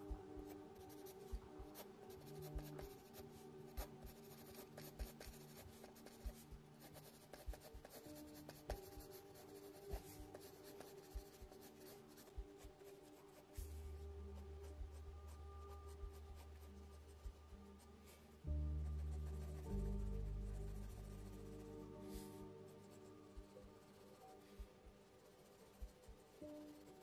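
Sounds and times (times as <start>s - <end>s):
quiet background music: 0.0s - 27.0s
pencil scratching on paper: 0.6s - 17.4s, 18.9s - 27.0s.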